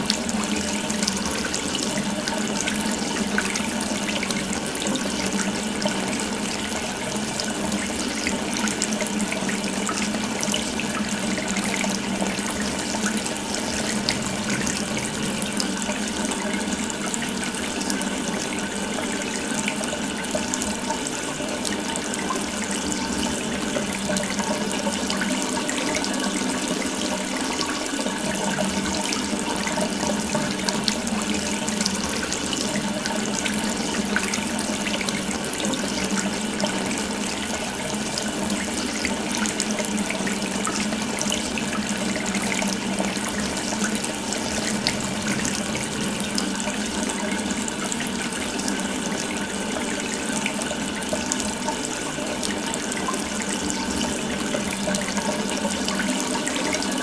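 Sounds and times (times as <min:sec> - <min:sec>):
water running from a tap: 0:00.0 - 0:57.0.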